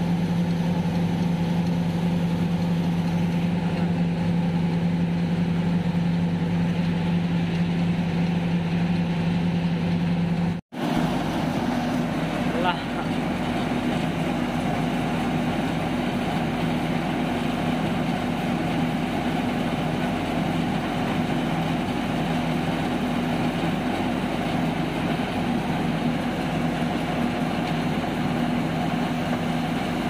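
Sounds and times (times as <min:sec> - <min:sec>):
tractor-powered rice mill running: 0:00.0 - 0:30.0.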